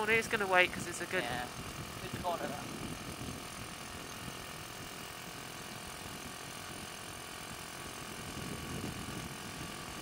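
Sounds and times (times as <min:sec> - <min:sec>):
small motorbike engine running: 0:00.0 - 0:10.0.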